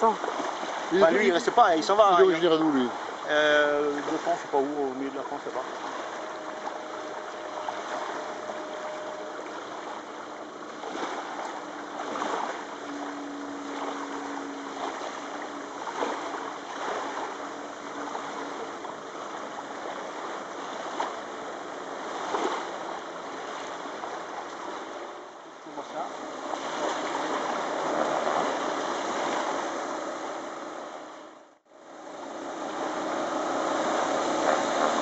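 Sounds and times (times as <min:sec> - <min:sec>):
faint light aircraft engine drone: 0:00.0 - 0:35.0
river water rushing: 0:00.0 - 0:35.0
wind: 0:00.0 - 0:35.0.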